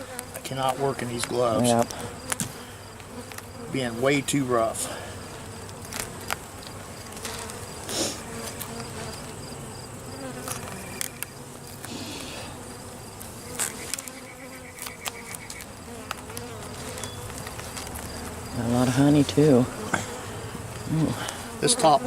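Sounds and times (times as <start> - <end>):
honey bees buzzing: 0.0 - 22.0.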